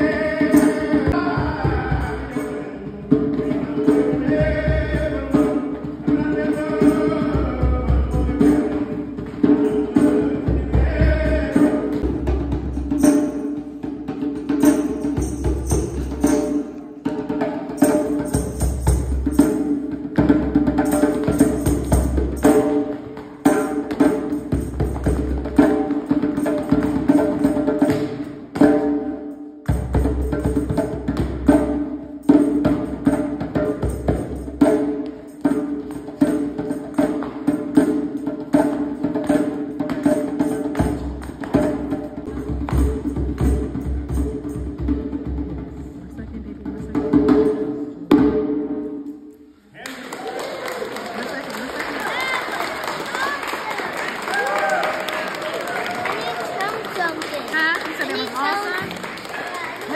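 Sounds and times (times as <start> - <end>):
percussion beat: 0.0 - 59.9.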